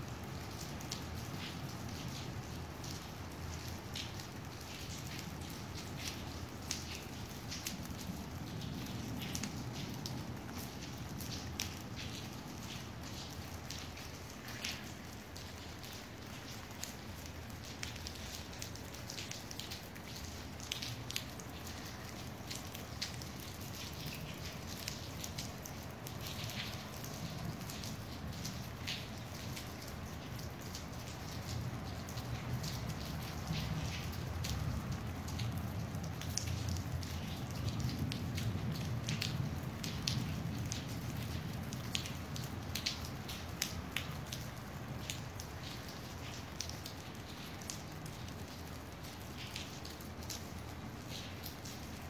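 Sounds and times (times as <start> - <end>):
raindrops ticking on hard surface: 0.0 - 52.0.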